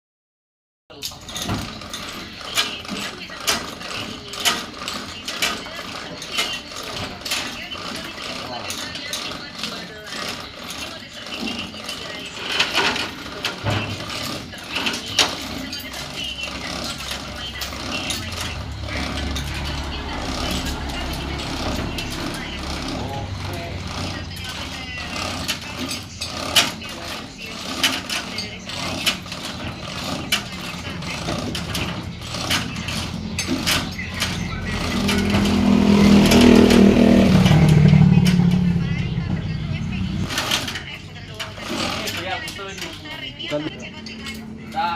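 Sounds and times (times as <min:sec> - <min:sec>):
knocks and clanks: 0:00.9 - 0:44.8
mechanical clatter: 0:00.9 - 0:44.9
low engine-like hum: 0:01.7 - 0:44.9.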